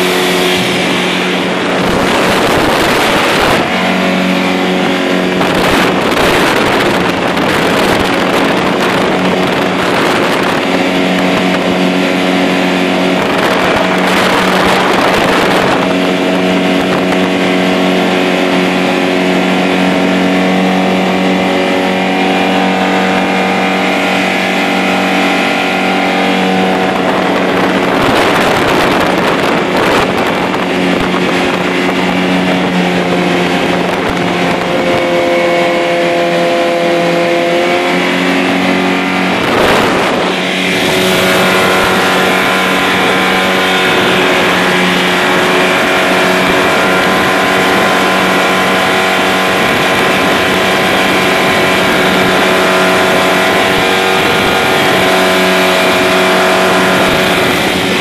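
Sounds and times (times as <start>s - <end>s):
motorboat engine running: 0.0s - 58.0s
water rushing and splashing: 0.0s - 58.0s
wind: 0.0s - 58.0s.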